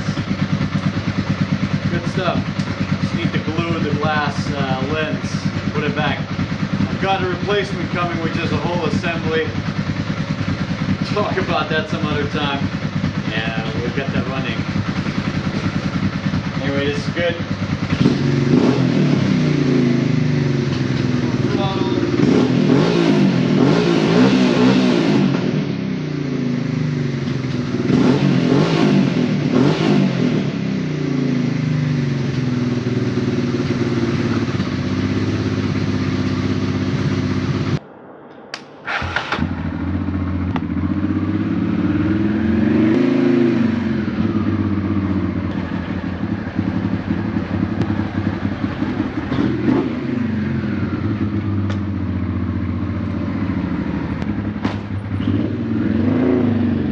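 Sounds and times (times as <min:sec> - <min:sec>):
motorcycle engine revving: 0:00.0 - 0:37.8, 0:38.8 - 0:56.9.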